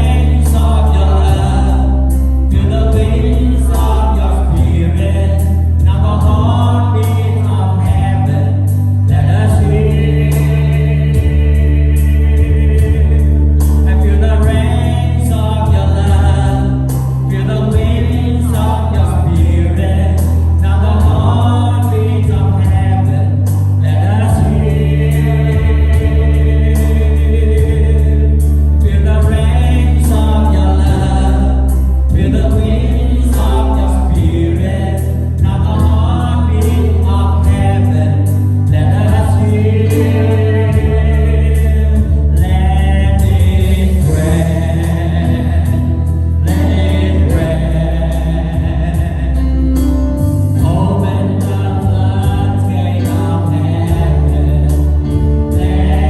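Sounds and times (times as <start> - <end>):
choir singing gospel: 0.0 - 56.0
sustained bass chords: 0.0 - 56.0.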